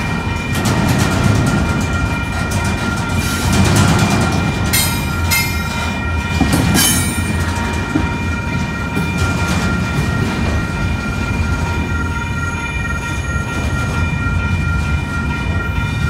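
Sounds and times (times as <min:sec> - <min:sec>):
crossing warning bell ringing: 0:00.0 - 0:16.0
train wheels rumbling on rails: 0:00.0 - 0:16.0
wheels squealing on rails: 0:00.0 - 0:16.0.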